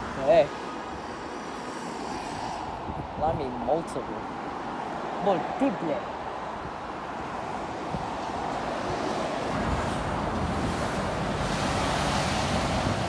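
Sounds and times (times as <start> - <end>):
lorry engine and tyre rumble: 0.0 - 13.0
road traffic: 0.0 - 13.0.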